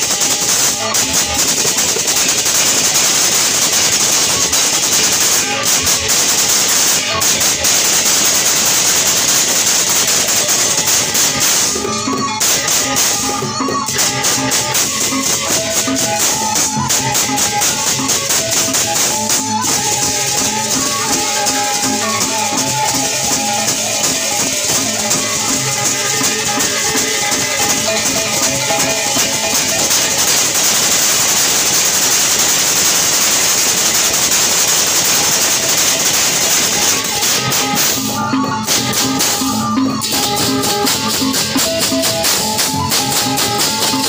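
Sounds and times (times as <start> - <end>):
drums: 0.0 - 44.0
hand cymbals clashing: 0.0 - 44.0.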